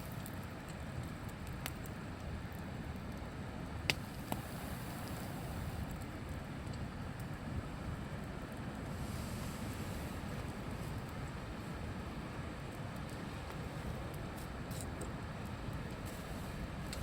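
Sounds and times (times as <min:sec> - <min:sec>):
fire popping: 0:00.0 - 0:07.4, 0:08.2 - 0:17.0
campfire crackling: 0:00.0 - 0:17.0.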